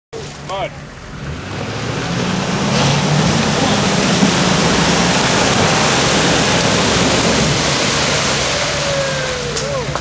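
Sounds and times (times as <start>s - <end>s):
truck engine under load: 0.2s - 10.0s
mud and water splashing: 1.1s - 10.0s
loud even rushing noise: 1.2s - 9.9s.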